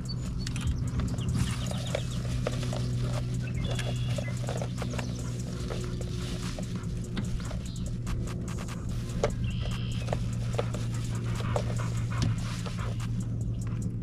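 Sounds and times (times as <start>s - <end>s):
steady low hum: 0.0s - 14.0s
dog panting: 0.1s - 14.0s.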